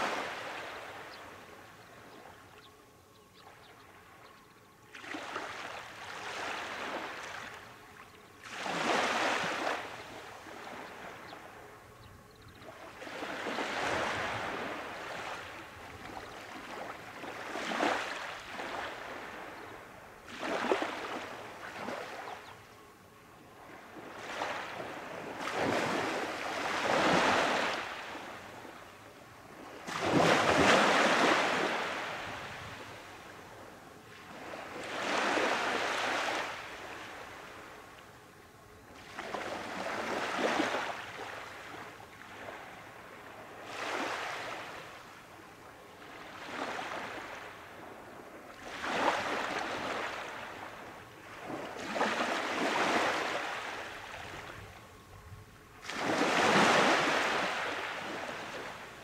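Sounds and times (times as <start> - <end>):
small waves washing up beach: 0.0 - 1.1, 4.9 - 7.8, 8.4 - 11.7, 12.7 - 22.5, 23.8 - 28.8, 29.5 - 38.0, 38.9 - 55.0, 55.7 - 59.0.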